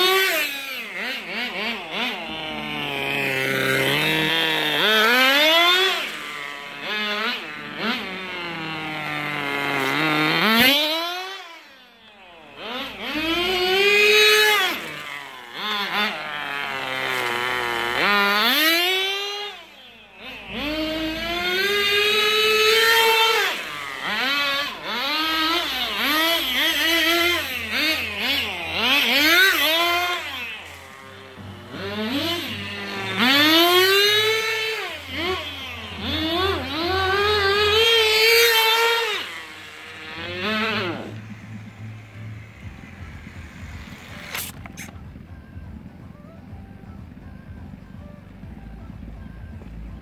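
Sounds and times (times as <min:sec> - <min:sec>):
rc car engine revving: 0:00.0 - 0:50.0.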